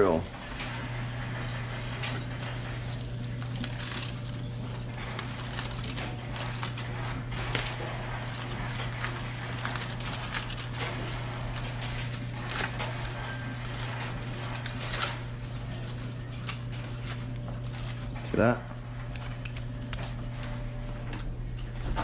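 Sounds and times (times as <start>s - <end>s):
aluminium foil crinkling: 0.5s - 21.8s.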